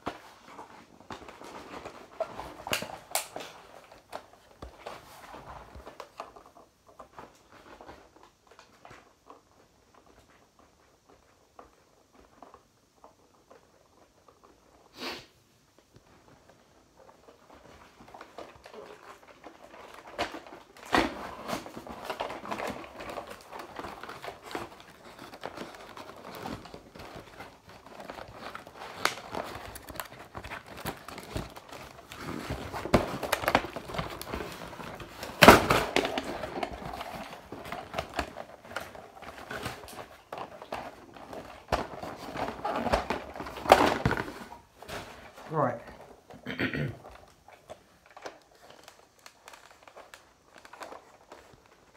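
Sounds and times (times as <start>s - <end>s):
toy packaging rustling: 0.0s - 14.9s, 15.7s - 46.4s, 47.0s - 51.9s.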